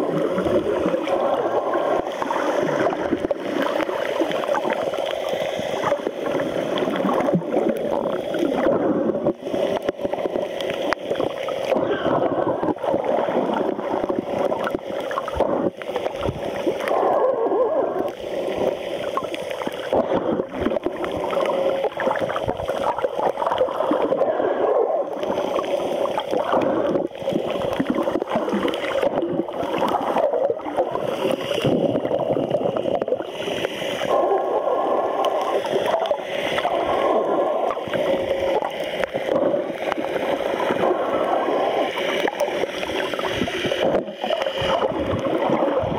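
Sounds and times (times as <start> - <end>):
muffled underwater gurgling: 0.0 - 45.9
small crackles and clicks: 0.2 - 24.4, 25.0 - 45.9.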